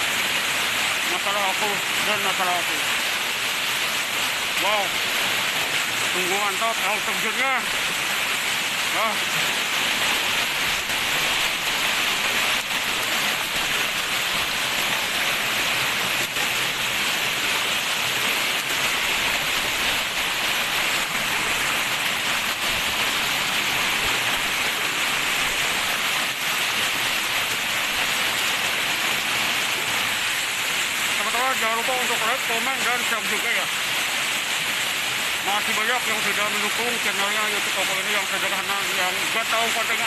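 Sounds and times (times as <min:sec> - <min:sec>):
waterfall: 0:00.0 - 0:40.0.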